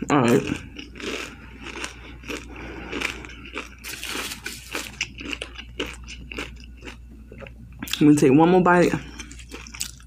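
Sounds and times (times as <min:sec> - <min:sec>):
chewing toast: 0:00.2 - 0:08.0, 0:09.1 - 0:10.0.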